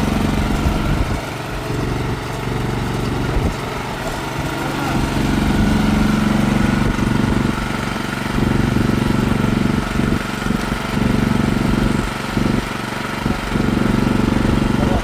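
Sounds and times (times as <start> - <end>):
snow blower engine running: 0.0 - 15.0.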